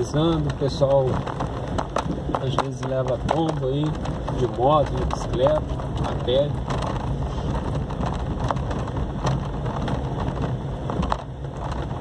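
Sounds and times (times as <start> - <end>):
knocks and rattles over bumps: 0.0 - 12.0
low rumble of engine and tyres: 0.0 - 12.0.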